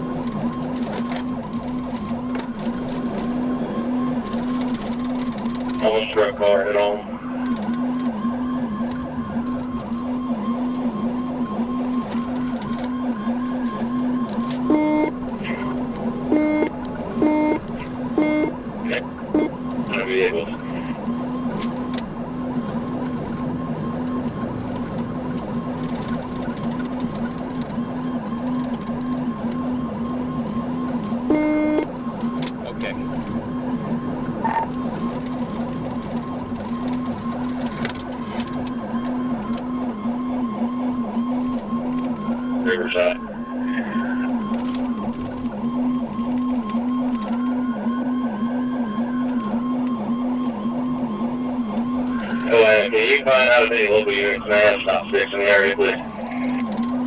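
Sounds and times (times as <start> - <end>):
electronic police siren: 0.0 - 57.0
road and engine noise: 0.0 - 57.0.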